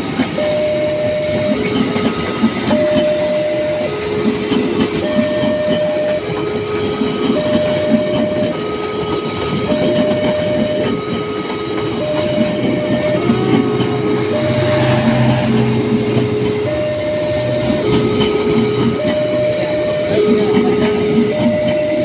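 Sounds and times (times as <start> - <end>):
train passing with clickety-clack: 0.0 - 22.0
level-crossing two-note alarm: 0.3 - 22.0.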